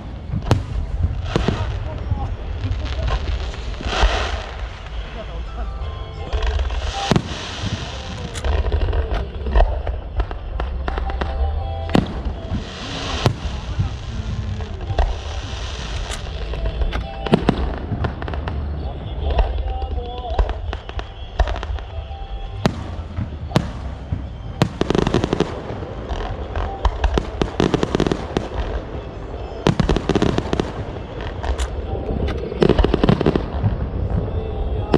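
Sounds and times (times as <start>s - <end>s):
fireworks bursting with sharp bangs: 0.0s - 34.9s.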